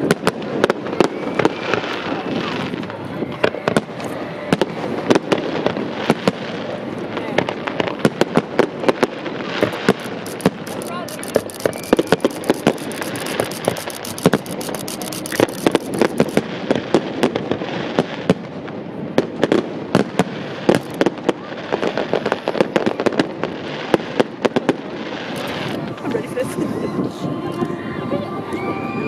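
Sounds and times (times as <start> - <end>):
fireworks bangs and crackles: 0.0 - 27.6.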